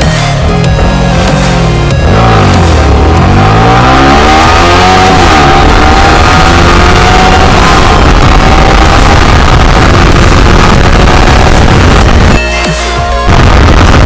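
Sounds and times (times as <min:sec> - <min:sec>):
motorcycle engine accelerating: 0:00.0 - 0:12.4, 0:13.3 - 0:14.0.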